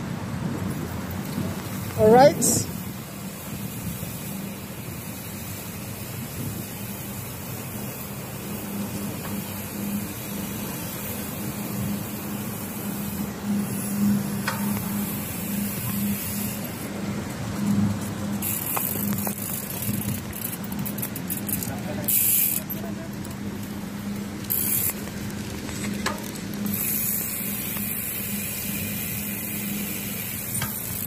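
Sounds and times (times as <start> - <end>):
city traffic: 0.0 - 31.0
road noise: 0.0 - 31.0.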